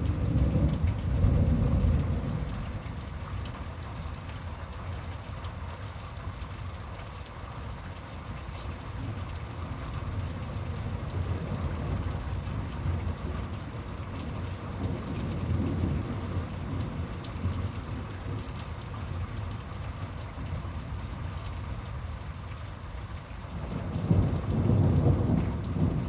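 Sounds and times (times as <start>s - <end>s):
low rumble of thunder: 0.0s - 5.1s, 8.7s - 26.0s
steady rain falling: 0.0s - 26.0s.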